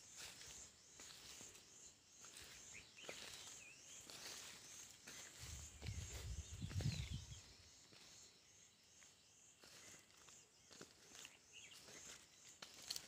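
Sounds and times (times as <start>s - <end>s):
bird chirps: 0.0s - 13.0s
insects buzzing: 0.0s - 13.0s.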